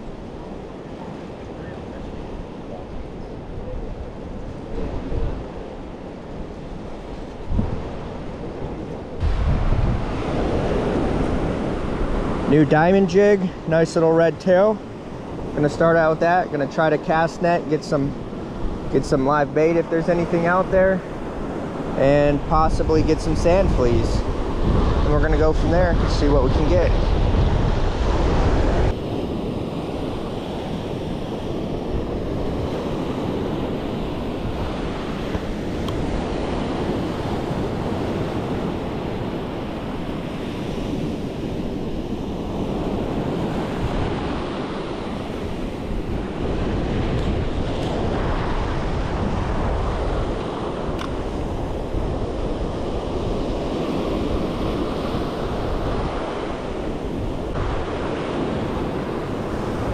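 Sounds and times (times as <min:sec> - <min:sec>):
wind on microphone: 0:00.0 - 0:13.8, 0:14.5 - 0:59.9
ocean surf breaking: 0:00.0 - 0:59.9.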